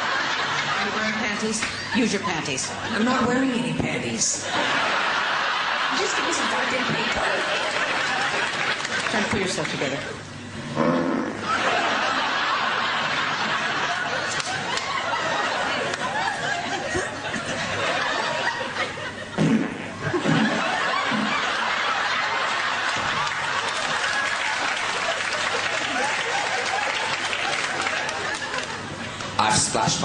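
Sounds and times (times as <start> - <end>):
studio audience laughing: 0.0 - 3.3, 4.3 - 10.1, 11.4 - 29.3.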